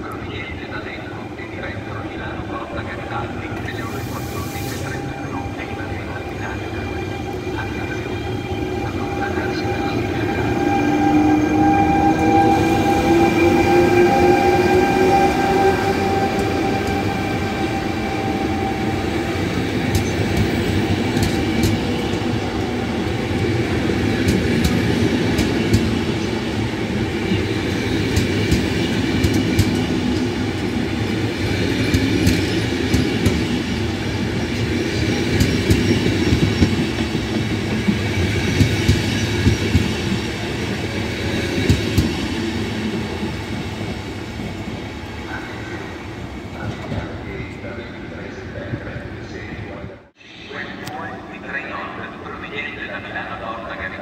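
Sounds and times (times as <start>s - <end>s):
train wheels rumbling: 1.7s - 45.3s.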